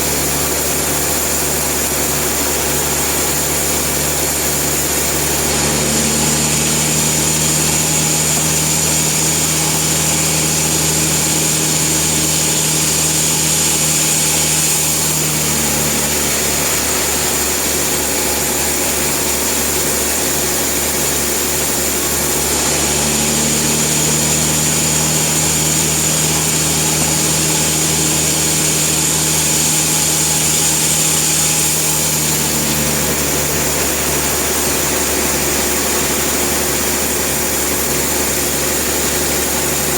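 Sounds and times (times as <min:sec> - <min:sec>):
sawmill machinery running: 0:00.0 - 0:39.9
higher hum: 0:03.0 - 0:39.9.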